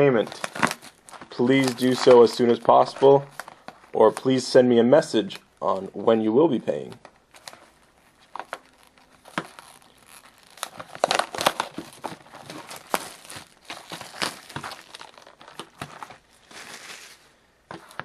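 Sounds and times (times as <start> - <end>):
plastic shrink-wrap tearing: 0.2 - 4.3, 7.3 - 18.0.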